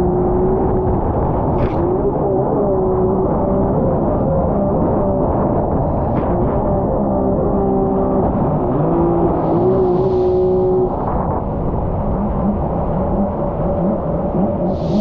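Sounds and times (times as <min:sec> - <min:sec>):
jet ski engine running hard: 0:00.0 - 0:15.0.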